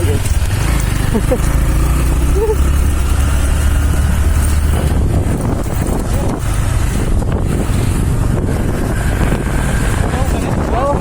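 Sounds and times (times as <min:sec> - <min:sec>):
low engine hum: 0:00.0 - 0:11.0
vehicle rumbling on rough track: 0:00.0 - 0:11.0
wind buffeting microphone: 0:00.0 - 0:11.0.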